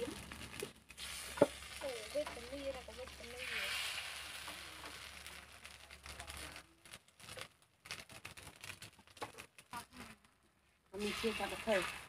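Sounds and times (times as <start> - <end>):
cakes sizzling in a pan: 0.0 - 10.2, 10.9 - 12.0
small ticks and crackles: 0.0 - 10.5.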